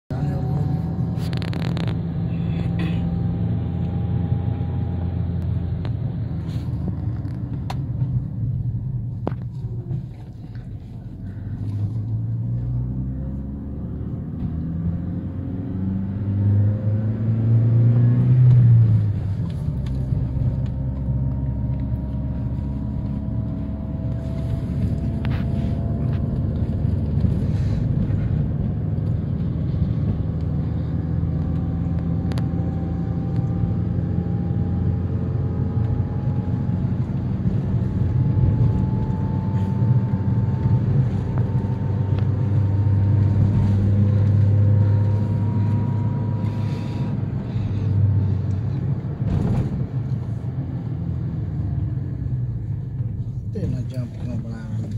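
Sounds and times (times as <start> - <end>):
road noise inside car: 0.1 - 54.9
vehicle engine: 0.1 - 54.9.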